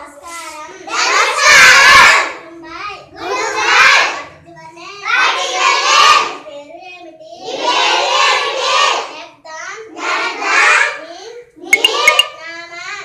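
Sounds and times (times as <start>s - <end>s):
children reciting in chorus: 0.0s - 13.0s.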